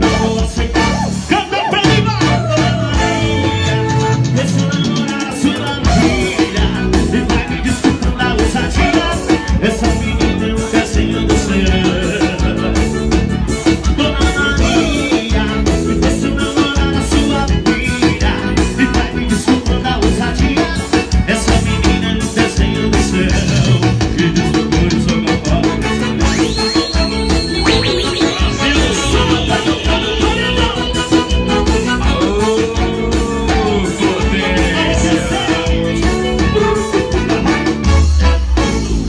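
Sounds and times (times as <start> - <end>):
live band music over pa: 0.0 - 39.0
steady drum beat: 0.0 - 39.0.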